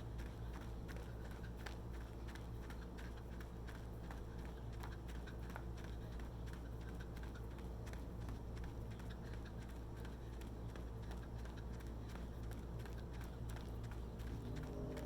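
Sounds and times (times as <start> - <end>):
running footsteps on a path: 0.0 - 15.0
steady low hum: 0.0 - 15.0.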